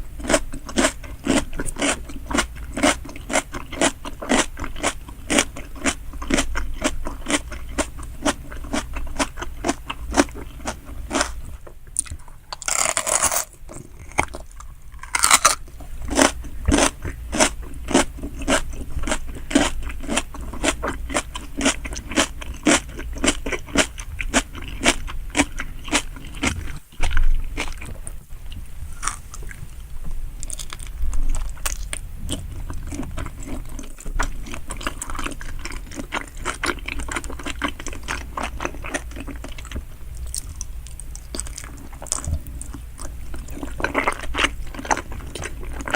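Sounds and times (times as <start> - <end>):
chewing and biting food: 0.0 - 28.2, 30.4 - 45.9.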